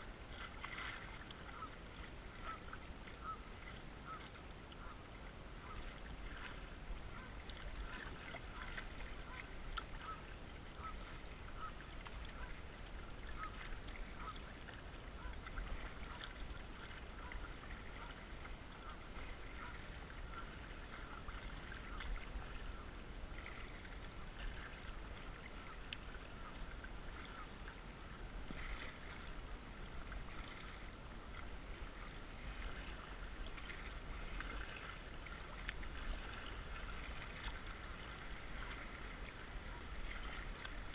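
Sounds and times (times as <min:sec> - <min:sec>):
paddle splashes: 0:00.0 - 0:40.9
water lapping against kayak hull: 0:00.0 - 0:40.9.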